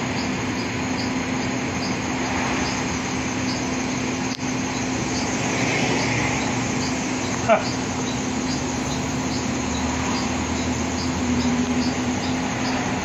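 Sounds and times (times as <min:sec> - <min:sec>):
faint high chirps: 0:00.0 - 0:13.0
machine hum: 0:00.0 - 0:13.0.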